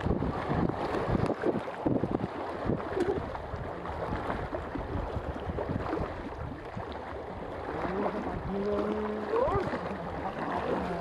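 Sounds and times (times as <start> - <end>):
waves lapping against rocks: 0.0 - 11.0
wind buffeting microphone: 0.0 - 11.0.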